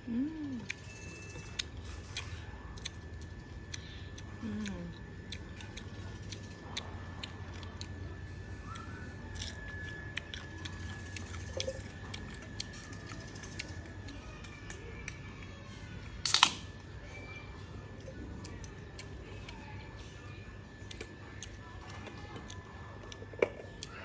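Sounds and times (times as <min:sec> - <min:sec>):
crunching fried food: 0:00.5 - 0:24.0.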